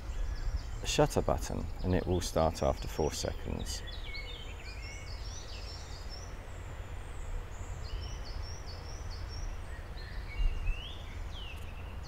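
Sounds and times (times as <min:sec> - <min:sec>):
small birds chirping and whistling: 0:00.0 - 0:12.0.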